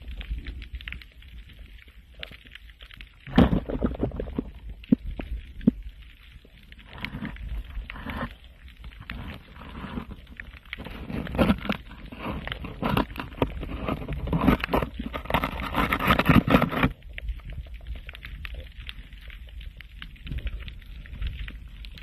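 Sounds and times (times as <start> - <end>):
underwater clicking and crackling: 0.0 - 22.0
underwater rumble: 0.0 - 22.0
water surges: 0.0 - 22.0.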